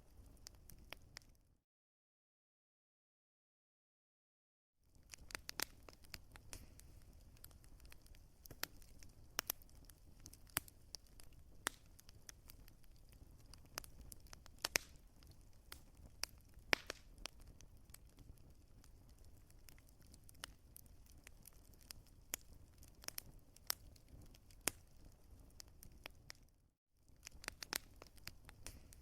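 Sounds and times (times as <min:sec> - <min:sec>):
fire hiss and low rumble: 0:00.0 - 0:01.3, 0:04.9 - 0:29.0
wood fire popping: 0:00.1 - 0:01.4, 0:04.9 - 0:26.5, 0:27.1 - 0:29.0.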